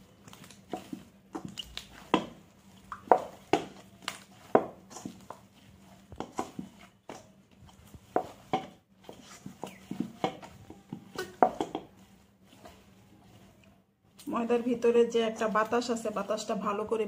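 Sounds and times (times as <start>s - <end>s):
dough slapping in a metal bowl: 0.0s - 17.0s.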